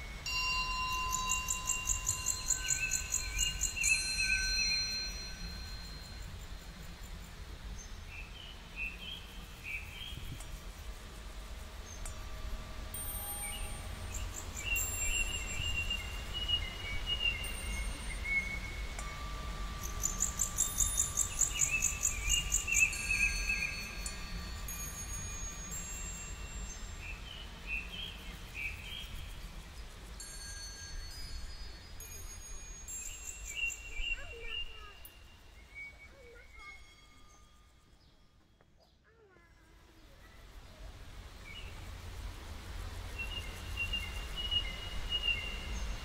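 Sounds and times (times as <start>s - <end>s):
quiet chime-like instrumental music: 0.0s - 8.0s, 8.8s - 38.9s, 41.4s - 46.0s
birds singing: 0.0s - 10.8s, 13.0s - 30.1s, 31.2s - 41.9s, 43.0s - 46.0s.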